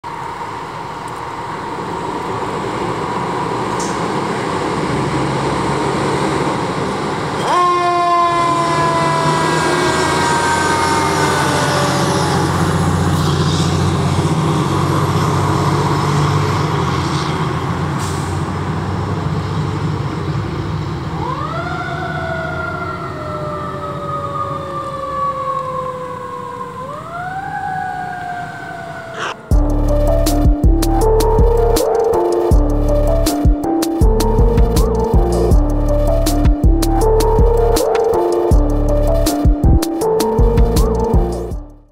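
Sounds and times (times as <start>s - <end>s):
truck engine rumble: 0.0s - 7.6s, 8.2s - 25.3s, 29.0s - 41.9s
fire truck siren wailing: 0.0s - 41.9s.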